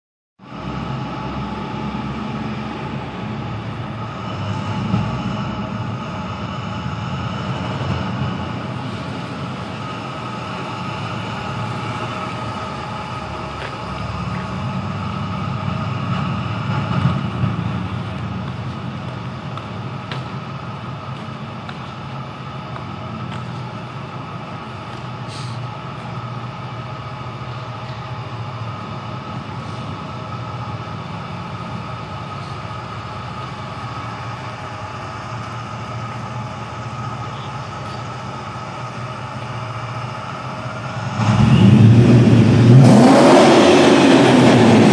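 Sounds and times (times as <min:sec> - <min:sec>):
car engine running in garage: 0:00.4 - 0:44.9.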